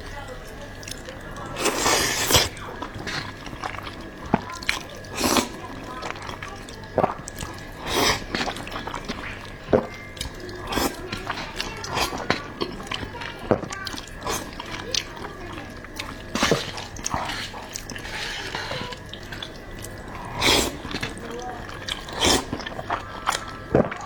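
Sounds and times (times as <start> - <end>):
wet chewing clicks and smacks: 0.4 - 24.0
noodles being slurped: 0.8 - 24.0.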